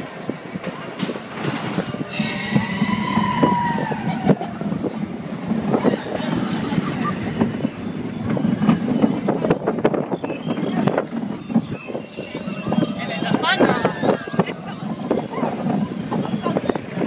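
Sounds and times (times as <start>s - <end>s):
roller coaster wheels clattering: 0.0s - 17.0s
wind buffeting microphone: 0.0s - 17.0s.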